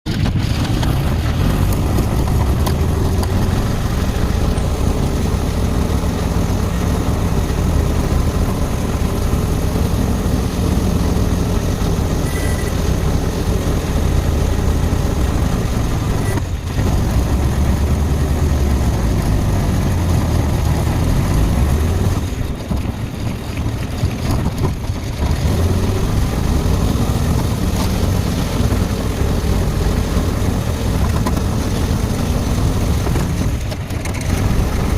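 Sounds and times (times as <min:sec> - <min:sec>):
vehicle engine and road noise: 0:00.0 - 0:34.9.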